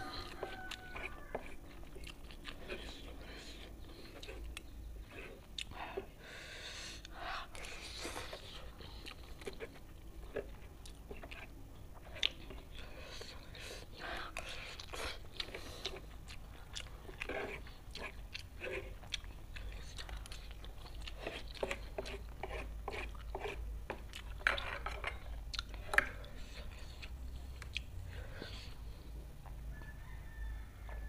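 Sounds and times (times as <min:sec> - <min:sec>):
chewing and mouth smacking: 0:00.0 - 0:06.1, 0:07.0 - 0:30.0.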